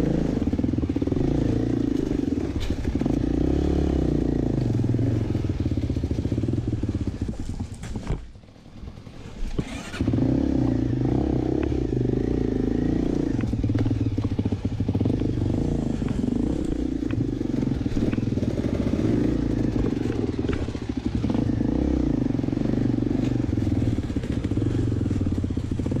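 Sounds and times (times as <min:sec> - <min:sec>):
dirt bike engine revving: 0:00.0 - 0:07.2, 0:09.5 - 0:26.0.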